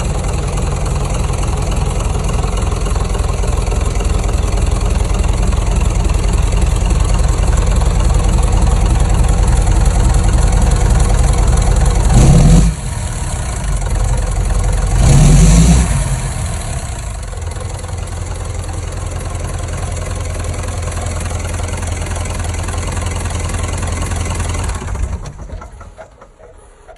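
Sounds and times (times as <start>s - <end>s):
engine idling and revving: 0.0s - 26.9s.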